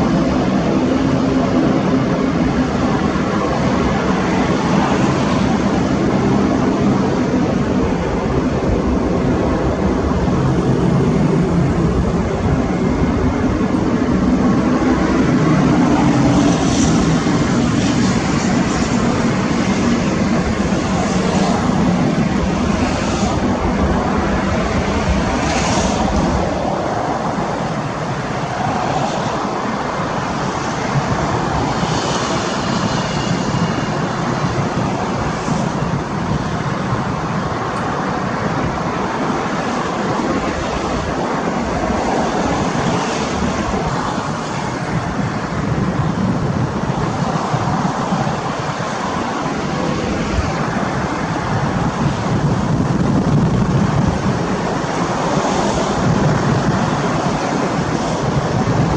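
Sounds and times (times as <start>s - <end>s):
jet engine roar: 0.0s - 58.9s.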